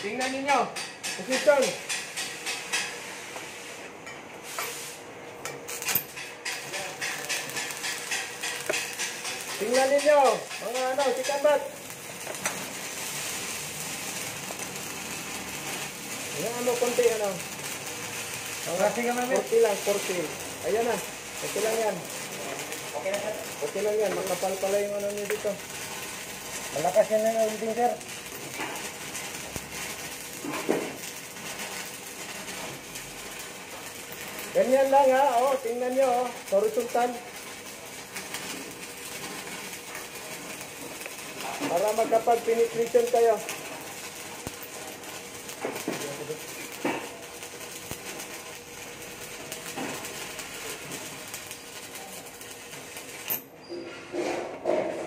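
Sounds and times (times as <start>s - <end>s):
welding arc crackling and sizzling: 0.0s - 53.6s.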